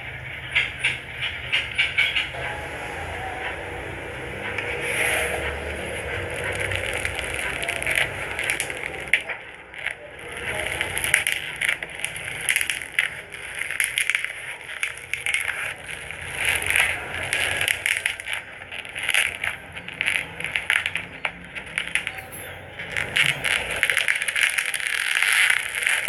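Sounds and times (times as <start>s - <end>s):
foam slime crackling and popping: 4.2s - 26.0s.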